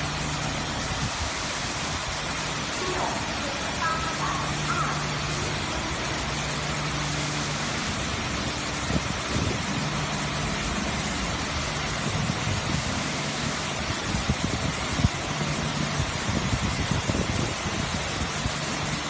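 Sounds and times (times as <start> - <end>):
high-pressure water jets hissing: 0.0 - 19.0
low mechanical hum: 0.0 - 19.0.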